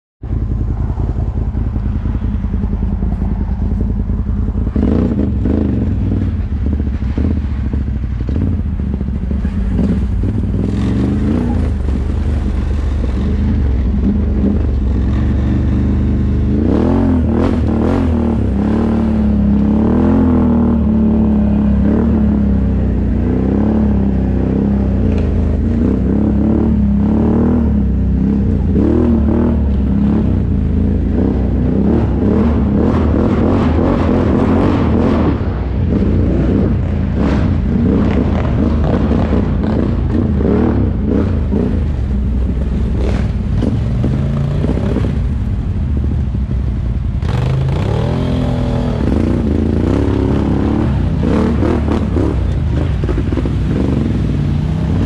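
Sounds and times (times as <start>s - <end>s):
atv engines revving: 0.2s - 55.0s.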